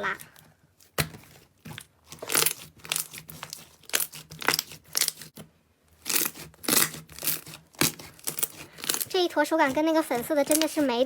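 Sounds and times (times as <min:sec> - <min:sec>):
slime stretched and squeezed: 0:00.0 - 0:05.4, 0:06.0 - 0:10.9.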